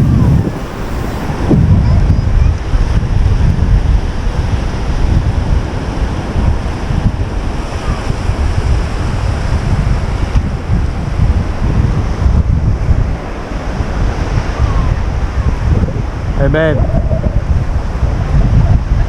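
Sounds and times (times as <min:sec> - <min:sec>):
surf washing on sand: 0:00.0 - 0:19.0
wind buffeting microphone: 0:00.0 - 0:19.0.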